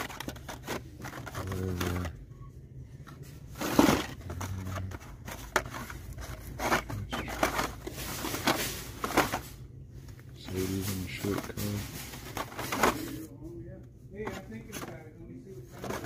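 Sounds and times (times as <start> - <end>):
plastic packaging clacking and rustling: 0.0 - 2.2, 3.0 - 13.3, 14.1 - 16.0.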